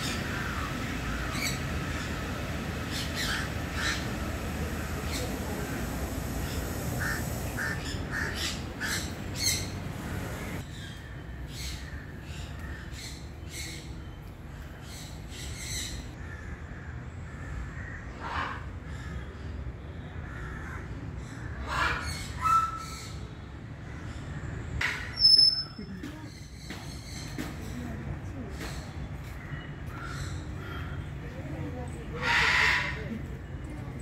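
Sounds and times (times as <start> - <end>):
birds harsh calls: 0.0 - 27.9, 28.5 - 31.4, 32.0 - 33.6.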